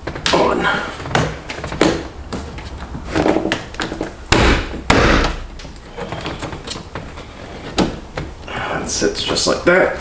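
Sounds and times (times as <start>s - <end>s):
plastic rubbing and knocking: 0.0s - 9.6s.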